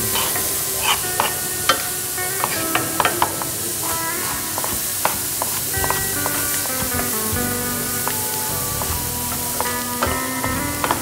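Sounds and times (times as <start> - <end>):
frying pan sizzling: 0.0 - 11.0.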